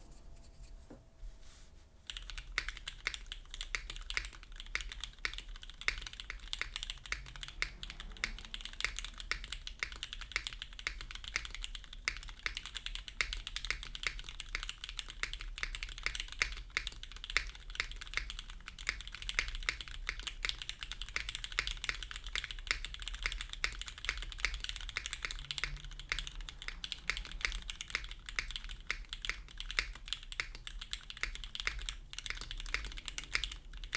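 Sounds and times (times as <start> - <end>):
mechanical keyboard typing: 2.1 - 33.9.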